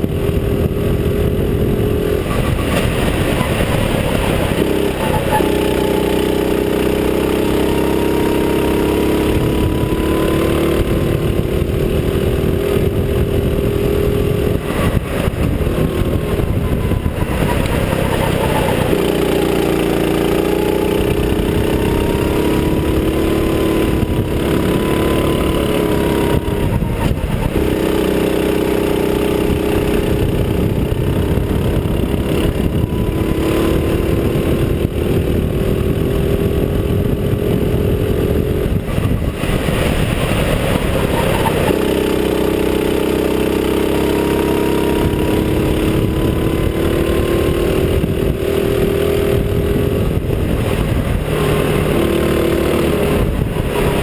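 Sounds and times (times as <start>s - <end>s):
go-kart engine racing: 0.0s - 54.0s
ride noise: 0.0s - 54.0s.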